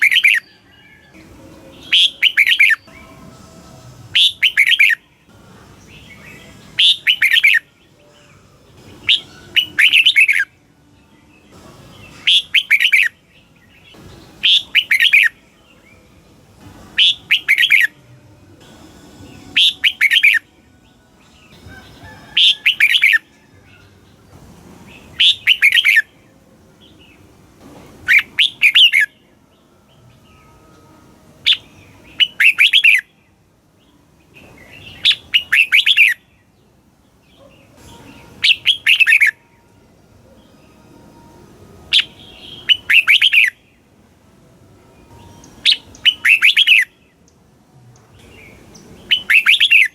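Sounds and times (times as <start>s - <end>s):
bird singing warbled phrases: 0.0s - 16.2s, 16.9s - 18.1s, 19.2s - 27.4s, 28.0s - 30.8s, 31.4s - 40.8s, 41.9s - 44.0s, 45.0s - 49.9s.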